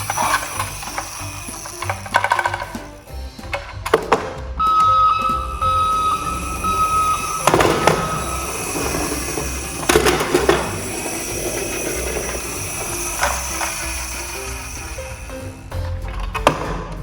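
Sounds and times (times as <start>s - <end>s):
toy cars clattering on track: 0.0s - 4.8s, 5.5s - 17.0s
background music: 0.0s - 17.0s.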